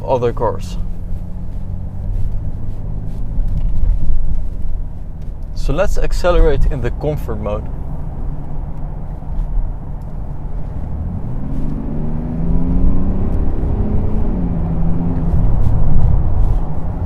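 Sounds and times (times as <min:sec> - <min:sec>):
diesel engine accelerating: 0:00.0 - 0:17.0
road rumble: 0:00.0 - 0:17.0.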